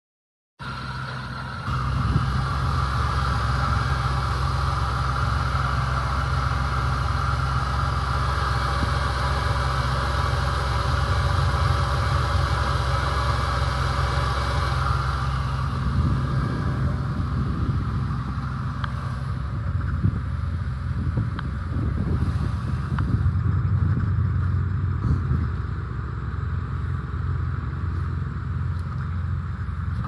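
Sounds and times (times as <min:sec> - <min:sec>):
car engine idling: 0:00.6 - 0:30.0.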